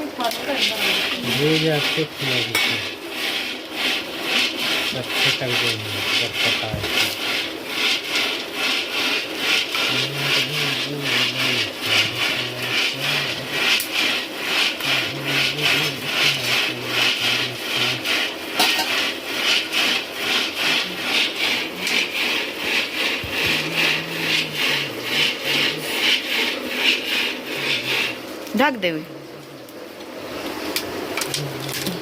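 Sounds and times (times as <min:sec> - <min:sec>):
stirrer scraping a pan: 0:00.0 - 0:32.0.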